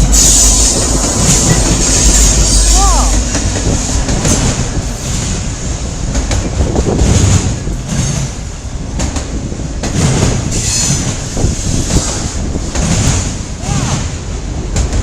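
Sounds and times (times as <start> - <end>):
steel wheels clacking over rail joints: 0.0 - 15.0.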